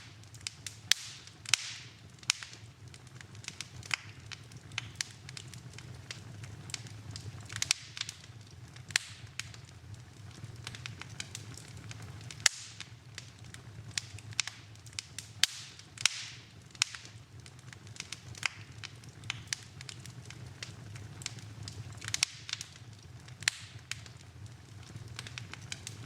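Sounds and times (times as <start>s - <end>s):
low fire rumble: 0.0s - 26.0s
wood fire crackling and popping: 0.0s - 26.0s.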